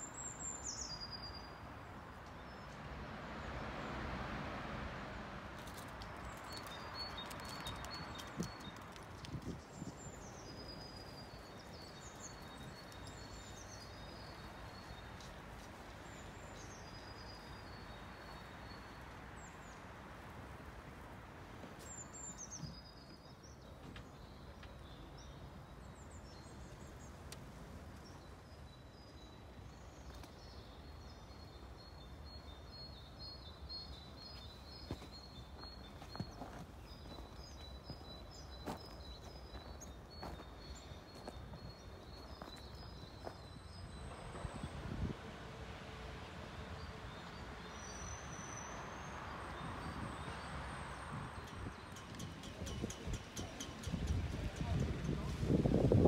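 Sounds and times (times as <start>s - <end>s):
songbirds singing: 0.0s - 4.0s, 5.6s - 20.3s, 20.9s - 56.0s.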